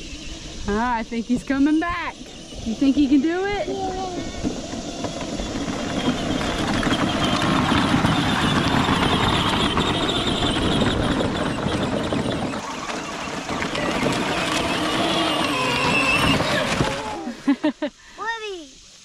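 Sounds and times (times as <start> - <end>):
wheels churning through mud: 0.0 - 17.7
ride-on toy electric motors: 0.0 - 19.0.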